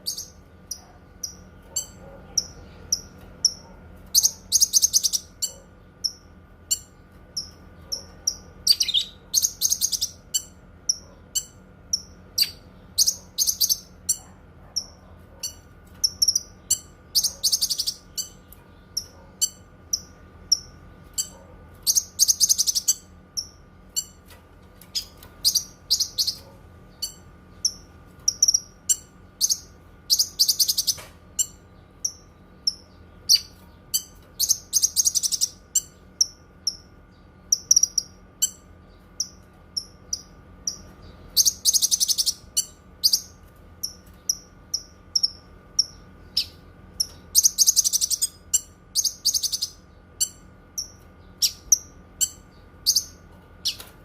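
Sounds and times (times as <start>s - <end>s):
songbird chirping and twittering: 0.0s - 54.0s.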